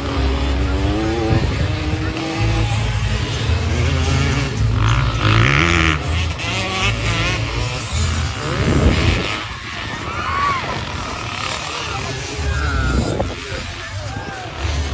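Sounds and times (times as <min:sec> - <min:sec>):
motocross bike engines: 0:00.0 - 0:14.9.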